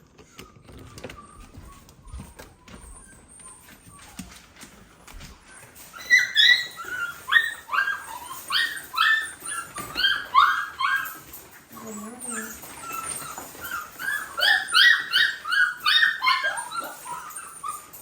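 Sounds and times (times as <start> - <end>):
faint rustling and clicks: 0.0 - 18.0
puppies whining and yipping: 0.0 - 18.0.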